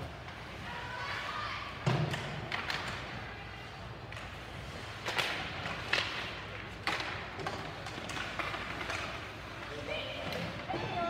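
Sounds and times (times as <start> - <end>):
hockey sticks and puck clacking: 1.8 - 11.0.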